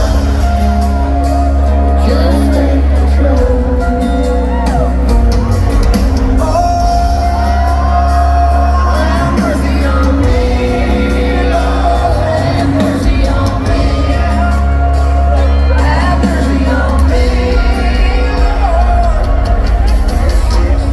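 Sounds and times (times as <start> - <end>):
crowd shouting and whooping: 0.0 - 20.9
live country rock band: 0.0 - 20.9
person singing: 0.0 - 20.9.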